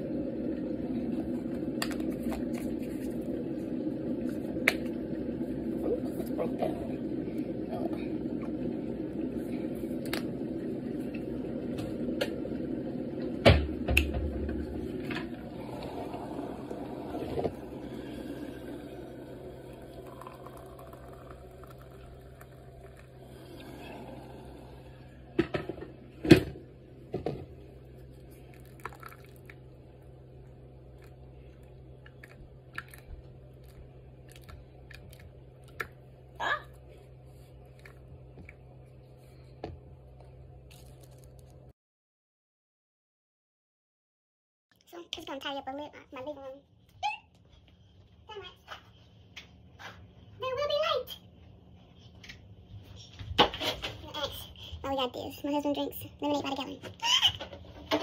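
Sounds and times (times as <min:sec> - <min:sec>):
kettle heating with rumbling hiss: 0:00.0 - 0:41.7, 0:44.8 - 0:58.0.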